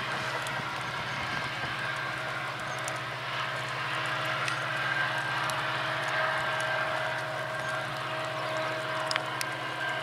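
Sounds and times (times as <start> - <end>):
diesel locomotive engine droning: 0.0 - 10.0.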